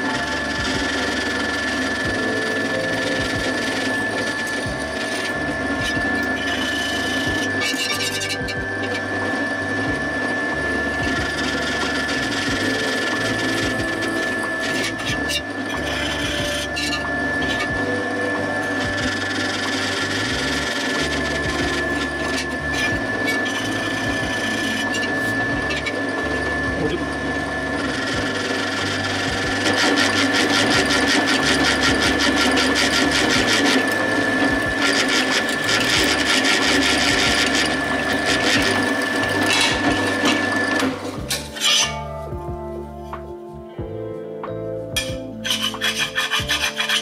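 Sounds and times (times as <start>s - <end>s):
power tool whining on metal: 0.0s - 42.3s, 44.9s - 47.0s
music: 0.0s - 47.0s.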